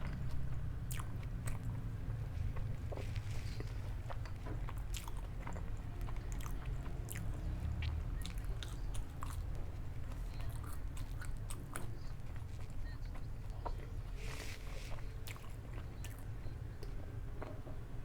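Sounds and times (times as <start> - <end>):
person chewing crunchy food: 0.1 - 17.0.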